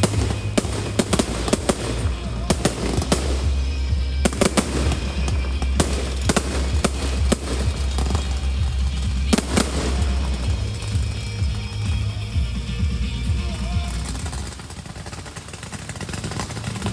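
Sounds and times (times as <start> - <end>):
music with deep bass: 0.0 - 14.6
fireworks bangs: 0.0 - 16.9.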